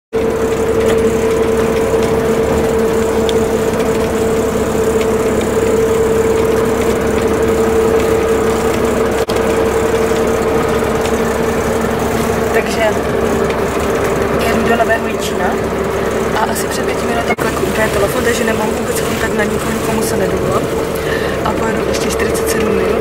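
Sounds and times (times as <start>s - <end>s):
bus engine drone: 0.1s - 23.0s.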